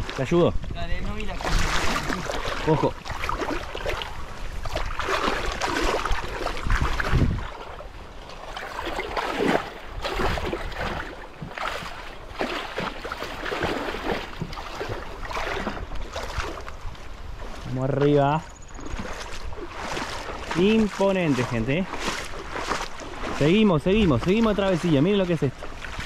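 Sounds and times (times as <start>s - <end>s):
river water splashing: 0.0s - 26.0s
wind buffeting microphone: 0.0s - 26.0s.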